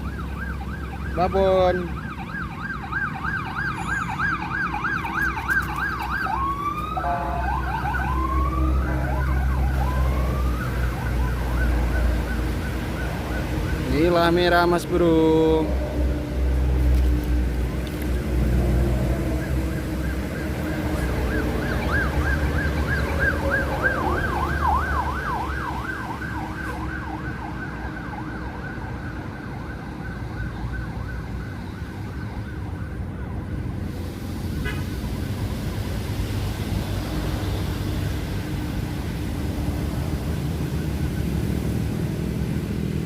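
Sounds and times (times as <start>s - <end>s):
emergency siren yelping: 0.0s - 16.3s, 18.4s - 43.0s.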